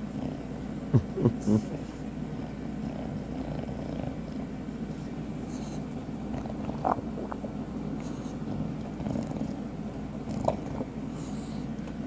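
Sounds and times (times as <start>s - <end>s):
puppy snuffling breath: 1.4s - 11.9s.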